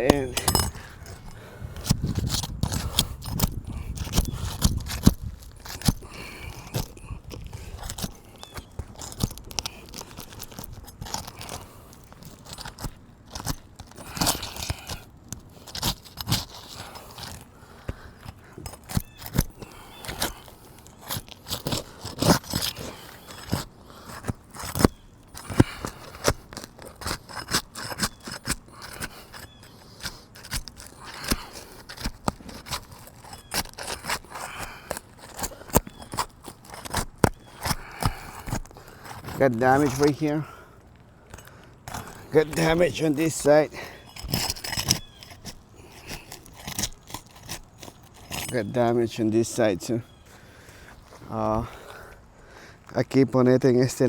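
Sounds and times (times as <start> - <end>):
roof shingles ripping and crackling: 1.4 - 48.7.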